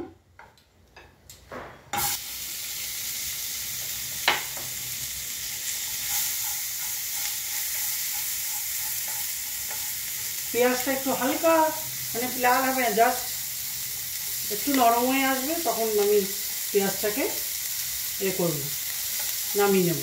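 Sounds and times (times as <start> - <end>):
onion sizzling in hot oil: 2.0 - 20.0.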